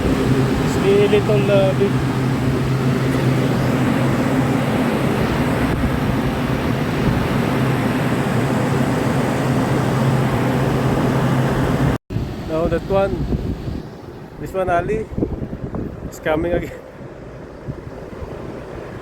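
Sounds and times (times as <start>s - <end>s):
air conditioning unit running: 0.0s - 19.0s.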